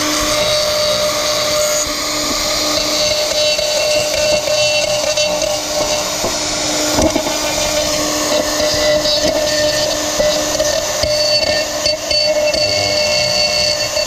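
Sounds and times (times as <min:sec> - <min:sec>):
power tool whining: 0:00.0 - 0:14.0.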